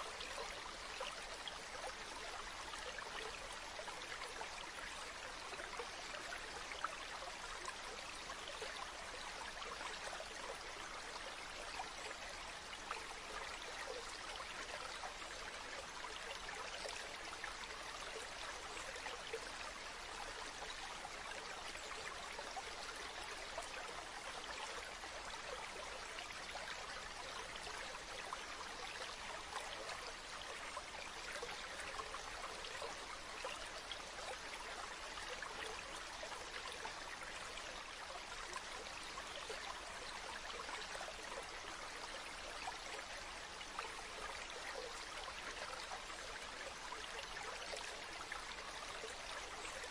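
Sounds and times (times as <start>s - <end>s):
stream water running: 0.0s - 49.9s.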